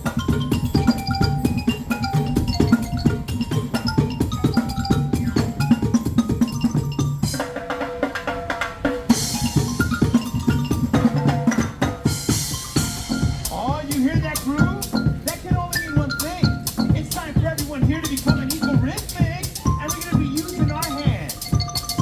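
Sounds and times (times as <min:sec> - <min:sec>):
drums struck in dense patterns: 0:00.0 - 0:22.0
mallet-struck pitched notes: 0:00.0 - 0:22.0.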